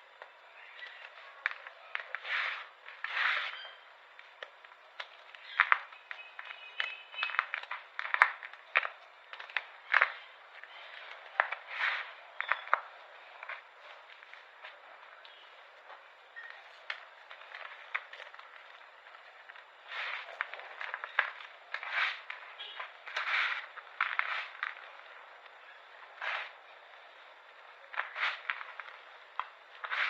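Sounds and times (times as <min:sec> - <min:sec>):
brittle chalk crunching: 0:00.0 - 0:30.0.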